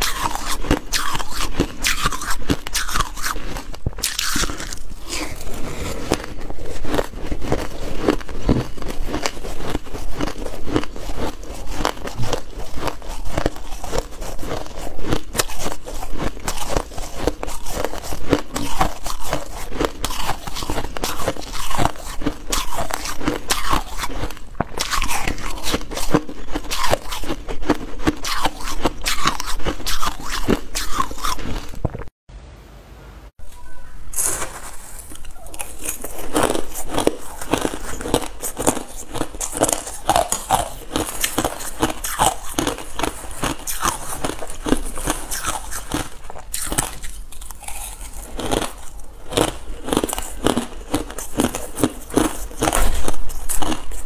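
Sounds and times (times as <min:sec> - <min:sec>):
shaved ice crunching: 0:00.0 - 0:31.8, 0:34.1 - 0:54.0.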